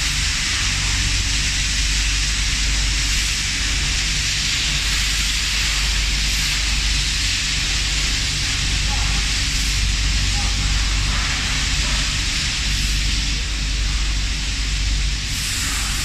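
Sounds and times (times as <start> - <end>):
low machine hum: 0.0 - 16.0
spray gun air hiss: 0.0 - 16.0.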